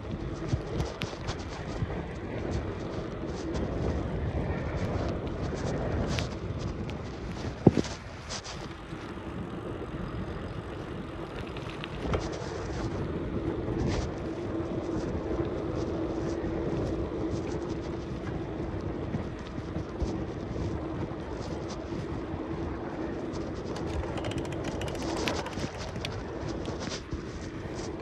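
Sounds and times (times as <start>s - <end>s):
bicycle tyres rolling: 0.0s - 28.0s
wind on microphone: 0.0s - 28.0s.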